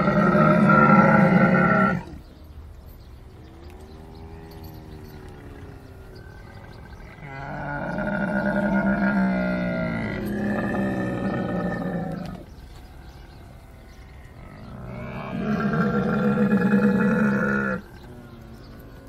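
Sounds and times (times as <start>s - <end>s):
camel groaning: 0.0s - 2.3s, 3.4s - 19.0s.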